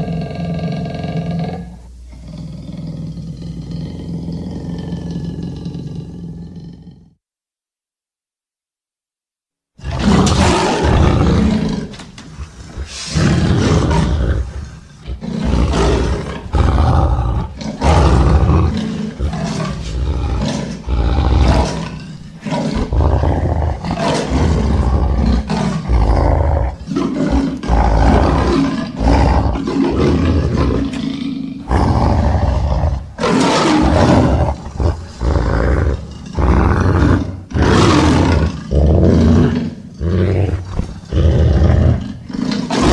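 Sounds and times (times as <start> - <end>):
animal roars: 0.0 - 7.2, 9.8 - 42.9.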